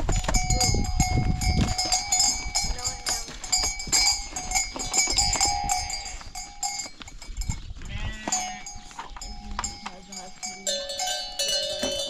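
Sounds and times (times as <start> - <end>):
livestock bells clanking: 0.0 - 12.0.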